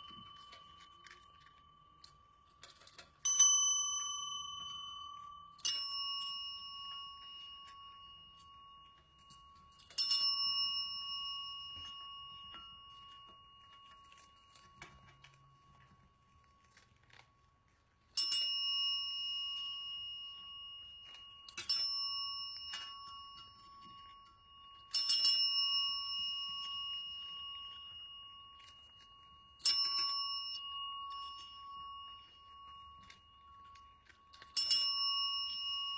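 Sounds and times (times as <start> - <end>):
desk service bell dings: 3.3 - 15.3, 18.2 - 33.8, 34.5 - 35.9.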